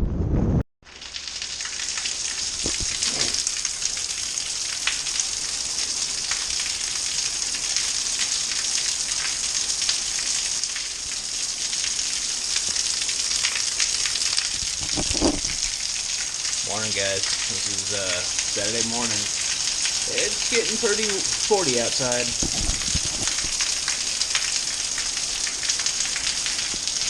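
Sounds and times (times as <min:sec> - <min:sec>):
heavy rain falling: 0:00.9 - 0:27.0.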